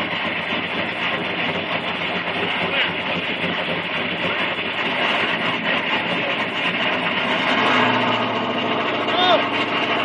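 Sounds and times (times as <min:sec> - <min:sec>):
cars idling: 0:00.0 - 0:10.0.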